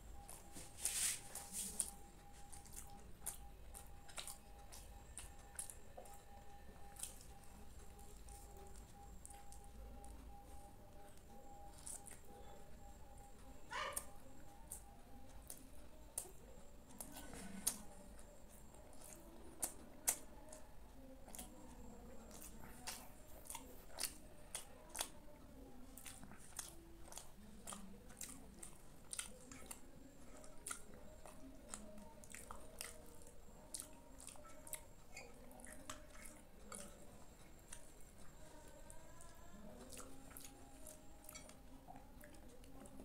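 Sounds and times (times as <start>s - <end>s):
person chewing with mouth clicks: 0.0s - 43.0s.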